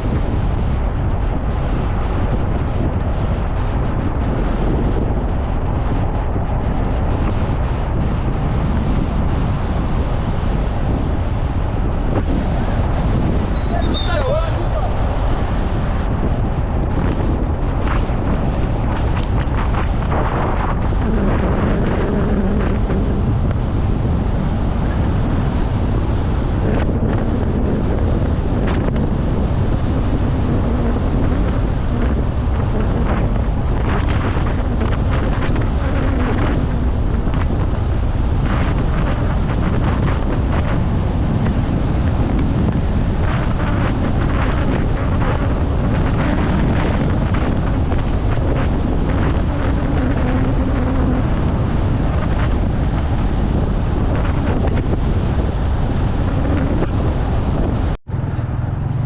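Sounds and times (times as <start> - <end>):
low rumble: 0.0 - 59.0
wind buffeting microphone: 0.0 - 59.0.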